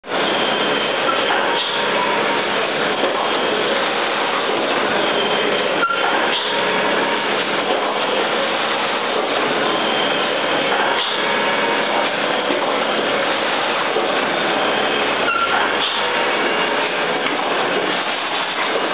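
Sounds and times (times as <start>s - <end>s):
industrial machine running: 0.0s - 18.9s
faint machine whines: 0.1s - 18.9s.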